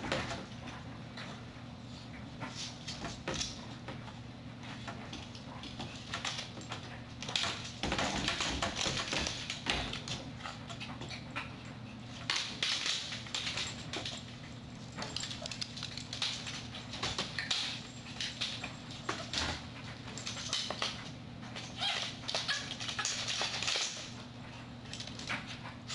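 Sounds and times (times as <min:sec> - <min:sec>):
dog claws clicking and scraping: 0:04.8 - 0:25.9.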